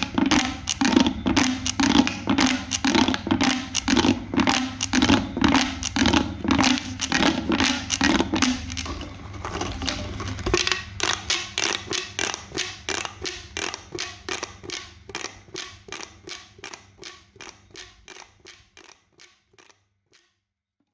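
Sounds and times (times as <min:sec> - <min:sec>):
pop toy popping: 0:00.0 - 0:09.1, 0:10.4 - 0:20.4.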